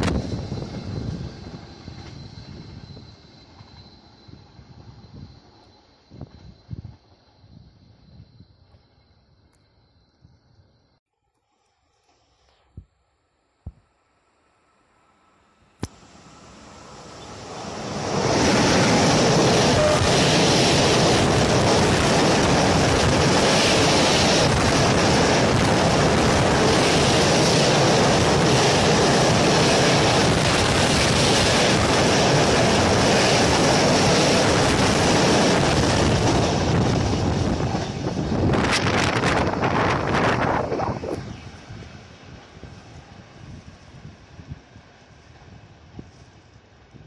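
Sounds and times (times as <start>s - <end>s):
freight train rumbling past: 0.0s - 9.0s, 14.5s - 47.0s.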